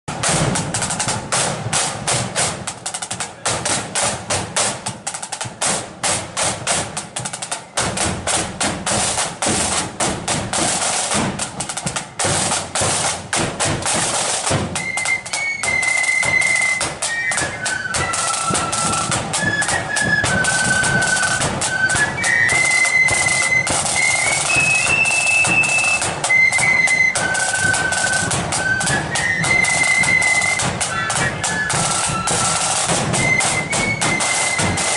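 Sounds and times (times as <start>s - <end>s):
snare drum rolls and beats: 0.0s - 34.9s
flute melody: 0.1s - 34.9s.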